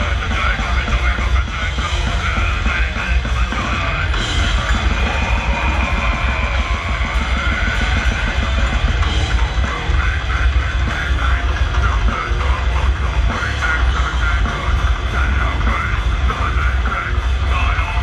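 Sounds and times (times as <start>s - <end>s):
death metal band playing live: 0.0s - 18.0s
fast dense drumming: 0.0s - 18.0s.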